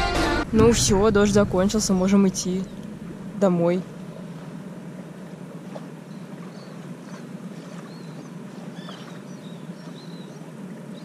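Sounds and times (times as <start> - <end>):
low hum: 0.0 - 11.0
rush of wind and water: 0.4 - 11.0.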